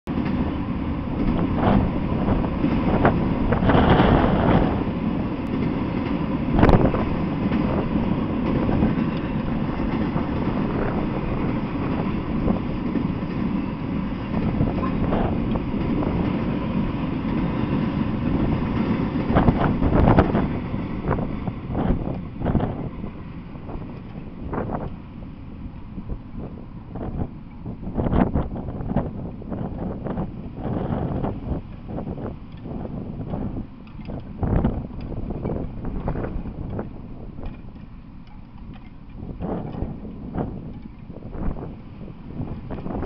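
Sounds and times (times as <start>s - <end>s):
rumble of steel wheels on rail: 0.0s - 43.0s
train cars clanking: 0.1s - 43.0s
wind buffeting microphone: 0.1s - 43.0s.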